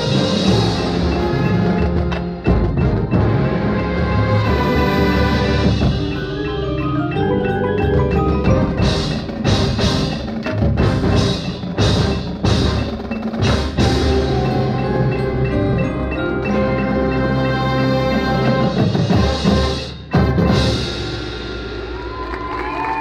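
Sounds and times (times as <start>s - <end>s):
mallet percussion: 0.0s - 22.5s
sharp percussion strikes: 0.0s - 22.6s
marching band playing: 0.0s - 22.9s.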